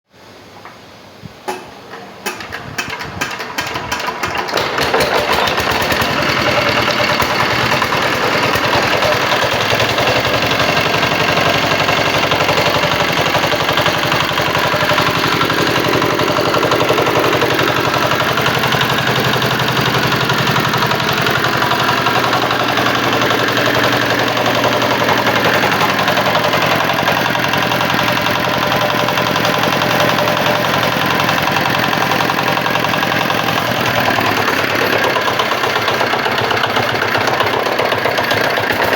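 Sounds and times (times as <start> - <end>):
diesel engine starting and running: 0.3 - 38.9.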